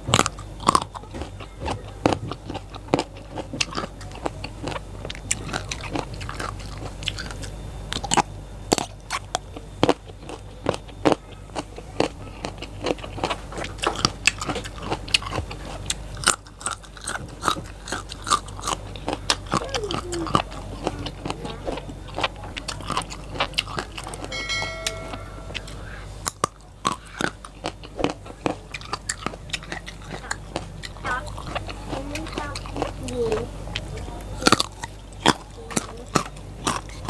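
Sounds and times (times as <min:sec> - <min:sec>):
crunching raw vegetables: 0:00.0 - 0:24.4, 0:25.6 - 0:37.0.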